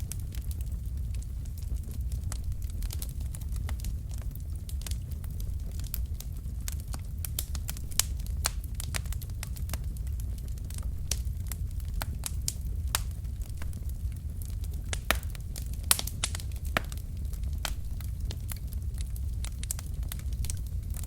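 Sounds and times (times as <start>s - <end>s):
wood fire crackling in fireplace: 0.0s - 21.0s.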